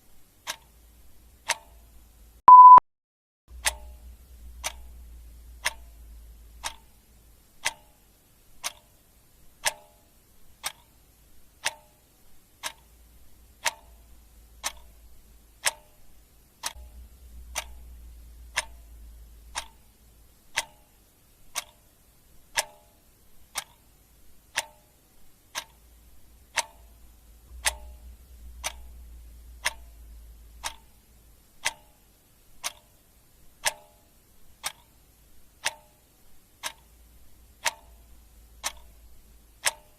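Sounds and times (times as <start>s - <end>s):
clock ticking: 0.2s - 2.8s, 3.5s - 39.9s.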